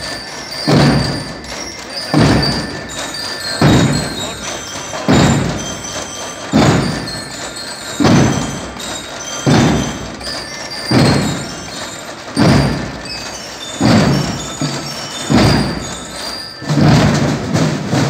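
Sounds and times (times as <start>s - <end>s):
marching band drums: 0.0s - 18.0s.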